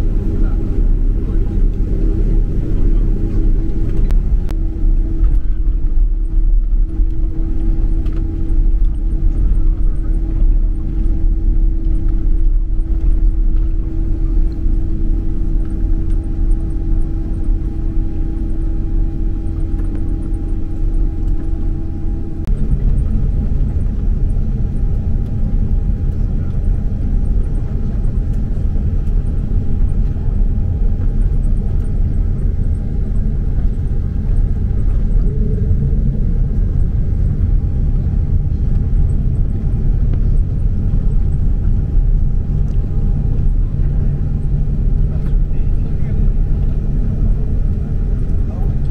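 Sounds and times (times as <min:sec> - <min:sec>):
airplane engines and airflow rumble: 0:00.0 - 0:48.9
steady cabin hum: 0:00.0 - 0:48.9.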